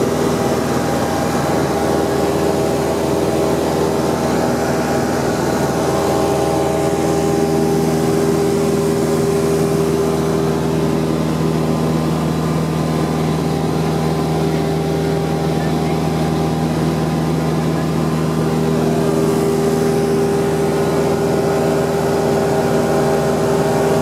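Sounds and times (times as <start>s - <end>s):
propeller plane engine drone: 0.0s - 24.0s.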